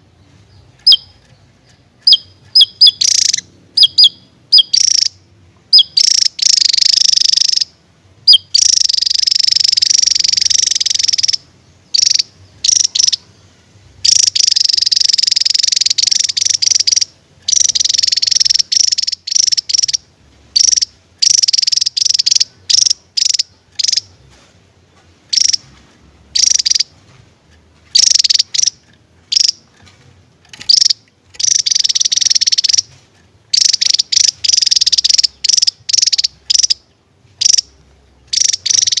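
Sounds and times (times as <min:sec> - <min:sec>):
bird singing buzzing trills: 0:00.0 - 0:24.2, 0:25.3 - 0:27.0, 0:27.9 - 0:29.9, 0:30.5 - 0:39.0.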